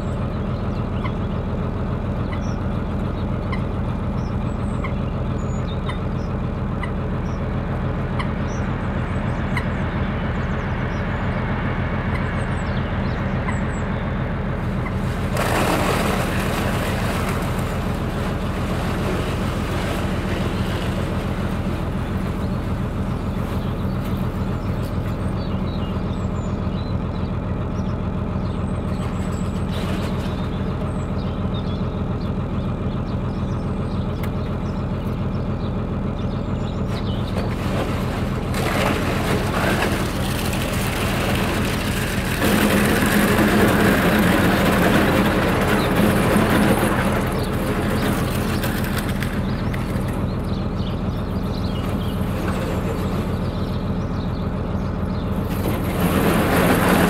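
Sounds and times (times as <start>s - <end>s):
boat diesel engine running: 0.0s - 57.0s.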